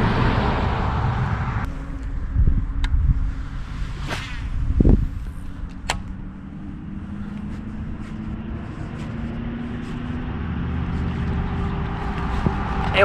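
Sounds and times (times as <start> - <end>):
faint engine hum: 0.0 - 13.0
road traffic rumble: 0.0 - 13.0.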